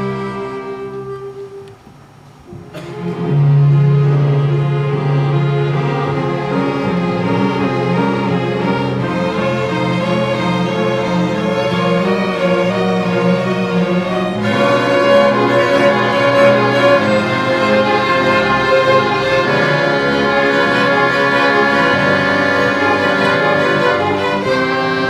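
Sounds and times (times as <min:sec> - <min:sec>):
string ensemble playing hymn: 0:00.0 - 0:25.0.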